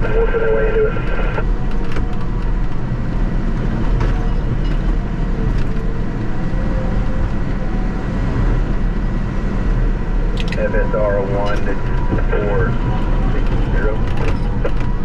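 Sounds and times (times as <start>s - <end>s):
bulldozer diesel engine rumbling: 0.0s - 15.0s.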